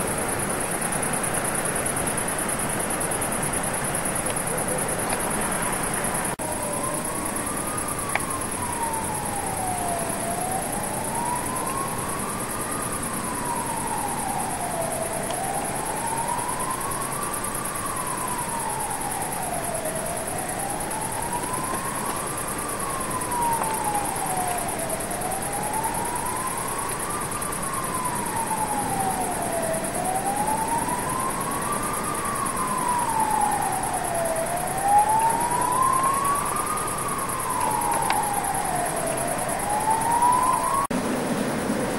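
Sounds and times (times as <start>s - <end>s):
siren wailing: 0.6s - 40.9s.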